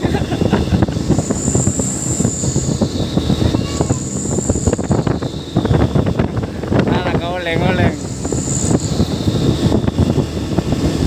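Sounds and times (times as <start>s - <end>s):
thin high whine: 0.0s - 11.0s
truck rumbling: 0.0s - 11.0s.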